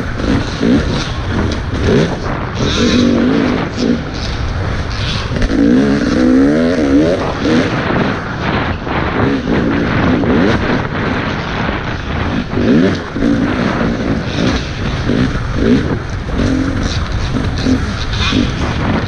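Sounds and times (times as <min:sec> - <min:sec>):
dirt bike engine revving: 0:00.0 - 0:19.0
track noise: 0:00.0 - 0:19.0
wind noise: 0:00.0 - 0:19.0.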